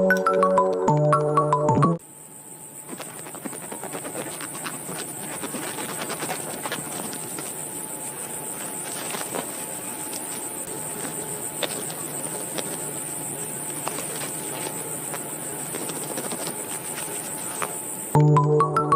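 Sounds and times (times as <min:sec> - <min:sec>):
insects chirring: 0:00.0 - 0:18.5.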